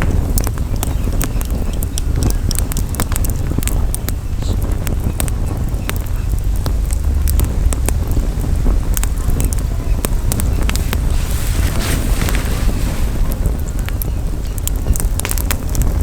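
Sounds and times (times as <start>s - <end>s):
campfire crackling and popping: 0.0s - 16.0s
wind buffeting microphone: 0.0s - 16.0s.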